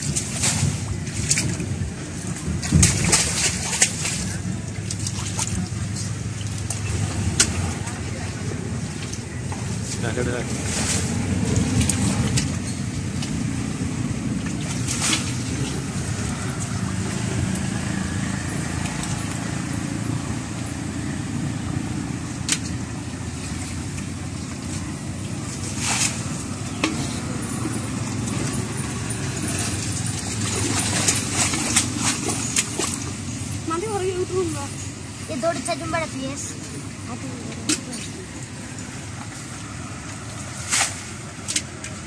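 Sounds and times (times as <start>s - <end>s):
low rumble: 0.0s - 35.3s
sharp splashes: 0.0s - 42.0s
wading through muddy water: 0.0s - 42.0s.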